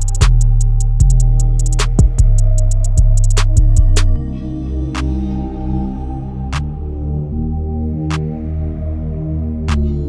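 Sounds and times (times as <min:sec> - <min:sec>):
sustained low music chords: 0:00.0 - 0:10.0.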